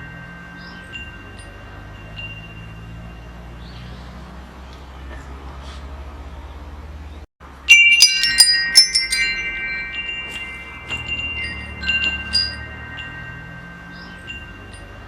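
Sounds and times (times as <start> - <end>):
metal wind chimes ringing: 0.0 - 4.6, 7.4 - 15.0.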